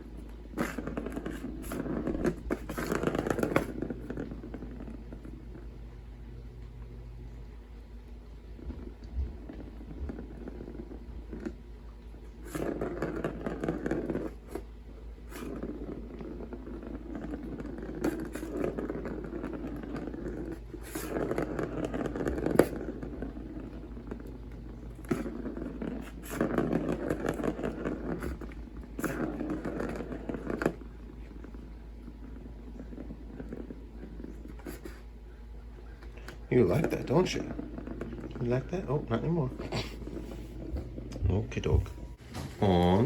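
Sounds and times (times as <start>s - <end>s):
cat scraping: 0.0s - 5.7s, 8.6s - 35.2s, 35.9s - 43.0s.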